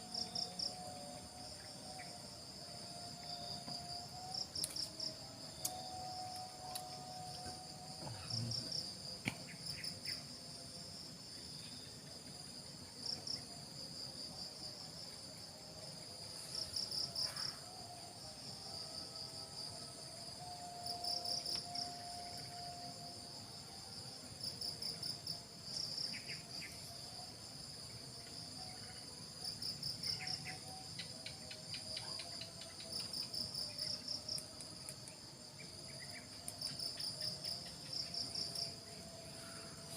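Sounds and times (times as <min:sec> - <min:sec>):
crickets pulsed chirps: 0:00.0 - 0:39.9
insects trilling: 0:00.0 - 0:39.9.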